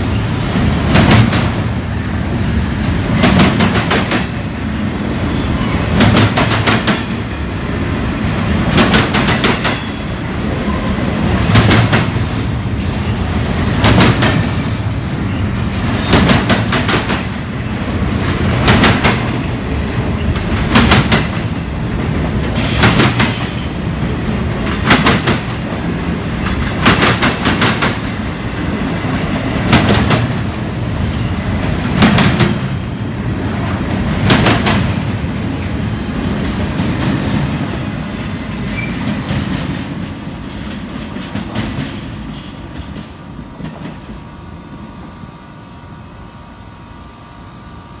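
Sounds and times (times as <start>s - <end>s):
train rumble: 0.0s - 48.0s
train wheels clicking over rail joints: 0.4s - 1.8s, 2.6s - 4.7s, 5.6s - 7.4s, 8.2s - 44.2s.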